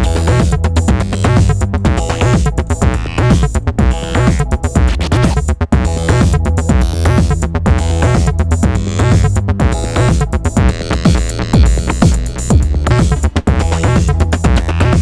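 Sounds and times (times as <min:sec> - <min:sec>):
electronic drum pattern: 0:00.0 - 0:15.0
synthesizer acid line: 0:00.0 - 0:15.0.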